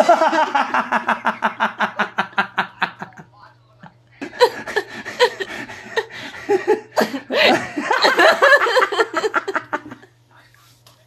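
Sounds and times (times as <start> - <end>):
man and woman laughing: 0.0 - 3.3, 4.2 - 10.2.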